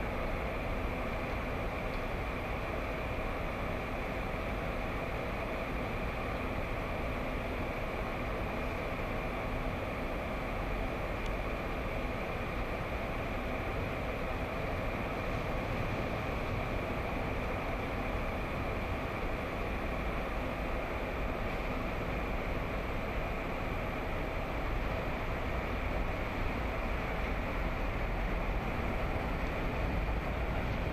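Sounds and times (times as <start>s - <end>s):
street traffic rumble: 0.0s - 30.9s.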